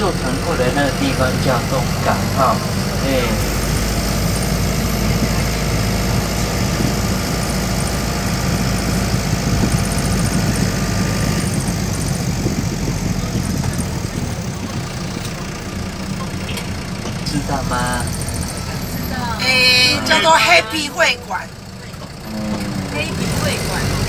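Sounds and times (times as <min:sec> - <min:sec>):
road noise from inside cabin: 0:00.0 - 0:24.0
vehicle engine running: 0:00.0 - 0:24.0.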